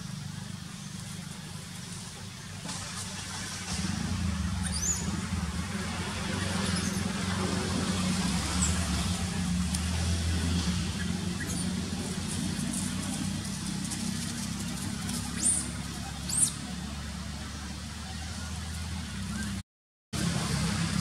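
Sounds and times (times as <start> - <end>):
vehicle engine rumble: 0.0 - 19.6, 20.2 - 21.0.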